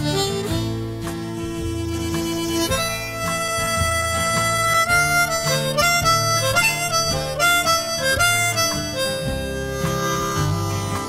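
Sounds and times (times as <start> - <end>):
acoustic guitar: 0.0 - 11.0
bass: 0.0 - 11.0
harmonica melody: 0.0 - 11.0.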